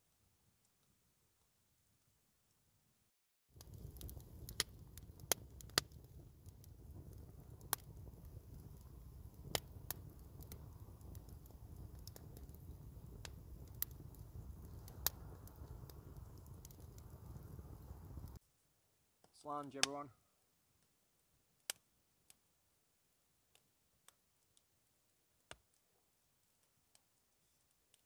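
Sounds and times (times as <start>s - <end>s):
campfire crackling: 3.5s - 18.4s, 19.2s - 28.0s.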